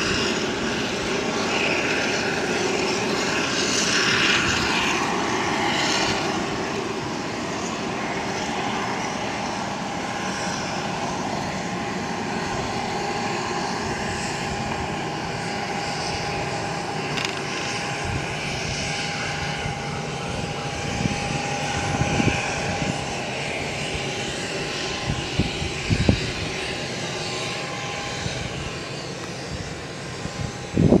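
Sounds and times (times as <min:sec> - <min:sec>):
turboprop engines running: 0:00.0 - 0:31.0.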